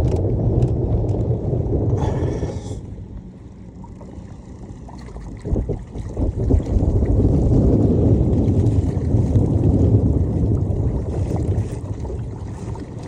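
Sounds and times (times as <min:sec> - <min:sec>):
wind buffeting microphone: 0:00.0 - 0:03.6, 0:04.6 - 0:13.0.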